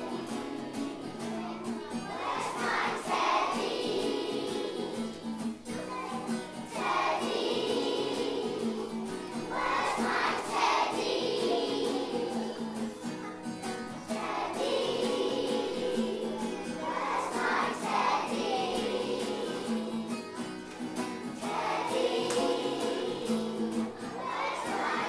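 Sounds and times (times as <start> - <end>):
children singing in unison: 0.0 - 13.1, 13.8 - 20.5, 21.2 - 25.0
musical accompaniment: 0.0 - 25.0.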